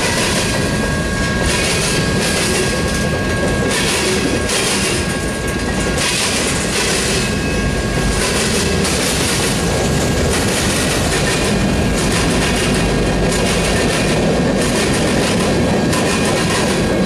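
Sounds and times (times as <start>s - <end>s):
locomotive passing: 0.0s - 17.0s
wheels rumbling on rail: 0.0s - 17.0s
wheels clicking over rail joints: 1.3s - 17.0s.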